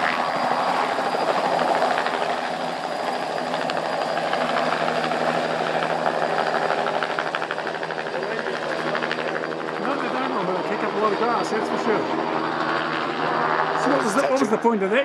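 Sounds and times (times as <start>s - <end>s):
model helicopter engine and rotors: 0.0s - 15.0s.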